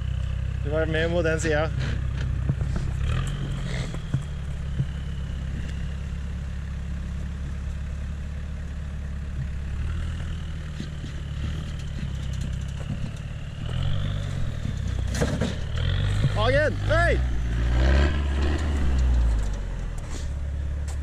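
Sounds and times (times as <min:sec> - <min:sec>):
truck engine running at low revs: 0:00.0 - 0:21.0.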